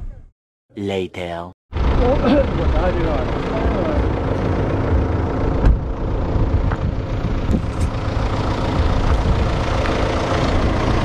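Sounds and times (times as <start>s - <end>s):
vehicle engine rumbling: 1.7s - 11.0s.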